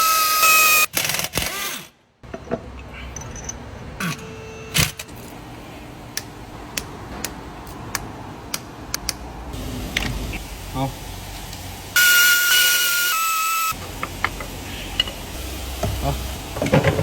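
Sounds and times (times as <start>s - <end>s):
low workshop background: 0.0s - 17.0s.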